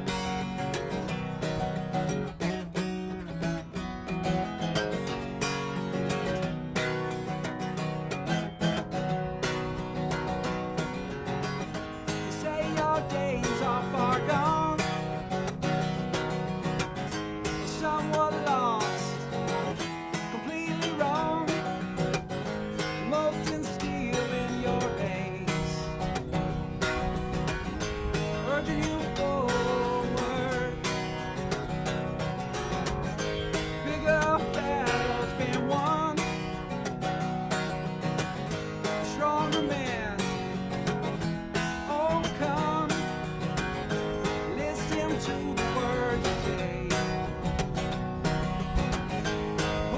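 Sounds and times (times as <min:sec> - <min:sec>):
acoustic guitar strumming: 0:00.0 - 0:49.9
bending guitar melody: 0:00.0 - 0:49.9.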